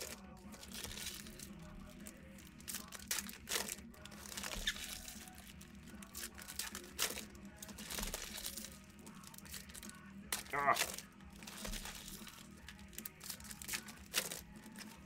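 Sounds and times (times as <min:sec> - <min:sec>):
trading cards being sorted: 0:00.0 - 0:15.0.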